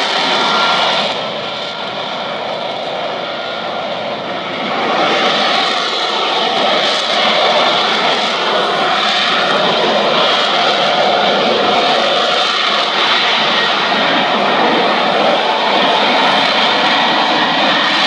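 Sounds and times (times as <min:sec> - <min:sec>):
jet engine flying overhead: 0:00.0 - 0:18.0.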